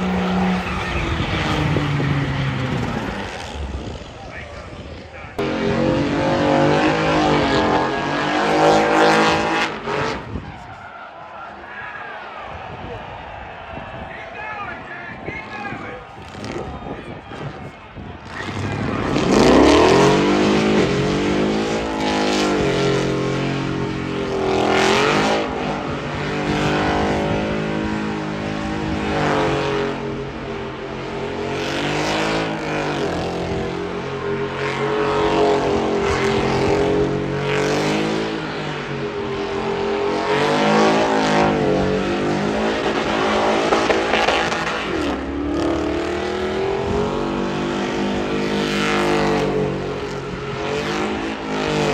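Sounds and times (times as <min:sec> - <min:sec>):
truck engine revving: 0:00.0 - 0:10.8, 0:14.8 - 0:51.9.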